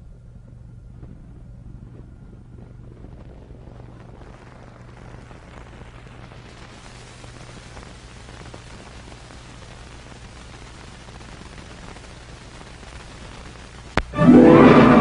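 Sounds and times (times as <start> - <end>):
faint crackles: 0.9 - 15.0
steady hiss: 1.1 - 14.2.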